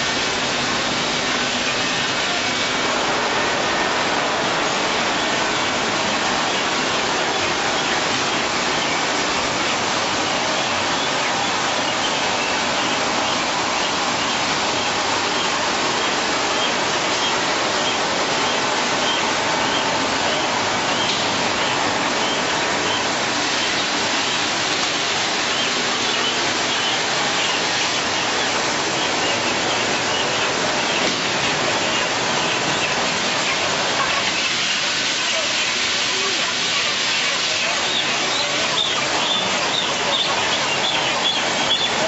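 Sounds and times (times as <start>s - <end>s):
machinery rushing noise: 0.0s - 42.0s.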